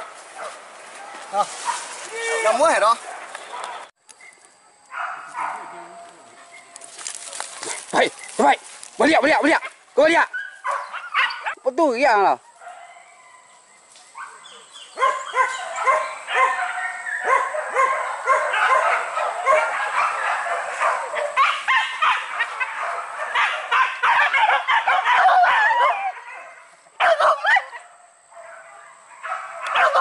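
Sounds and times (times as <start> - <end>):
dogs barking and yelping: 0.0 - 6.9, 9.6 - 11.6, 12.4 - 30.0.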